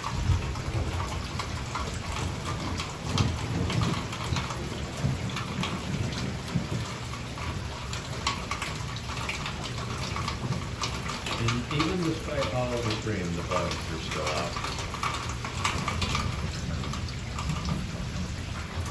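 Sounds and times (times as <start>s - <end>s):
heavy wind-driven rain: 0.0s - 18.9s
raindrops crackling on surfaces: 0.0s - 18.9s.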